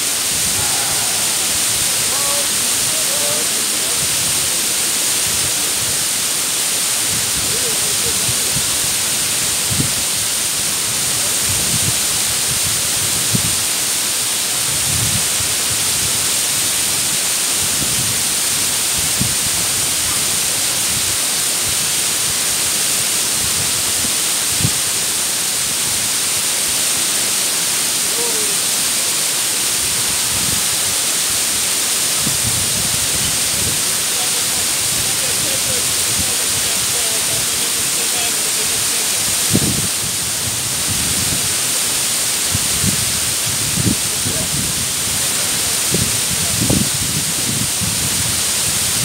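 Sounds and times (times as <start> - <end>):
waterfall pouring: 0.0 - 49.0.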